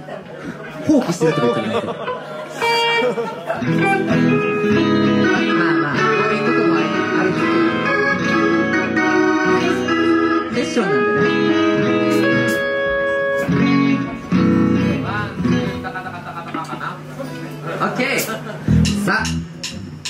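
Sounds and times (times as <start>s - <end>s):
live rock band playing: 0.8s - 20.0s.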